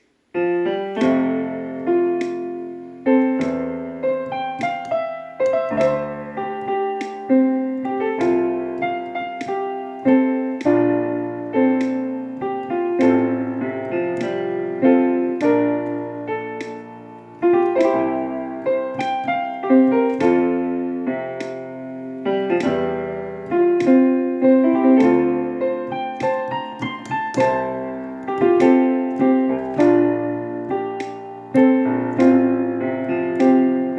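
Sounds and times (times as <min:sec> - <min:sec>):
piano sustained chords: 0:00.0 - 0:33.9.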